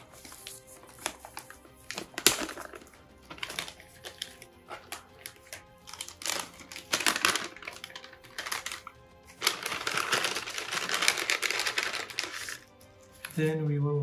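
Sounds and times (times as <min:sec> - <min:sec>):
plastic bag crinkling: 0:00.0 - 0:13.4
background music: 0:00.0 - 0:14.0.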